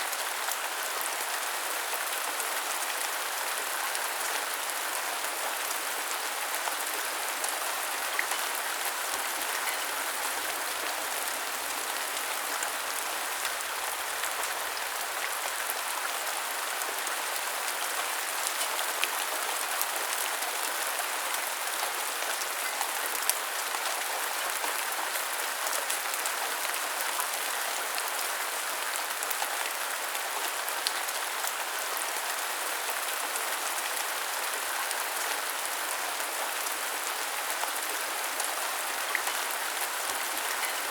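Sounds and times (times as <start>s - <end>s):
rain hissing on surfaces: 0.0s - 40.9s.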